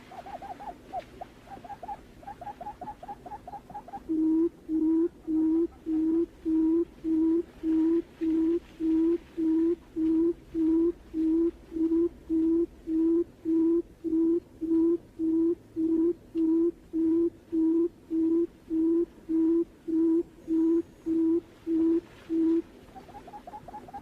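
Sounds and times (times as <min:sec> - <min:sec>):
bird hooting call: 0:00.0 - 0:24.0.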